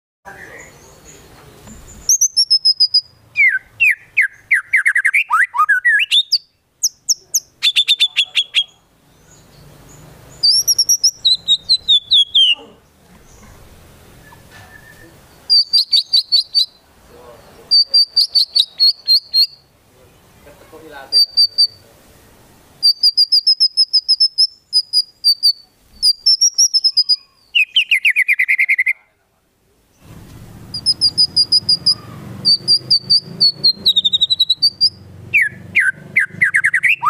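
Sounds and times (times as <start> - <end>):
songbird singing: 0.3 - 37.0.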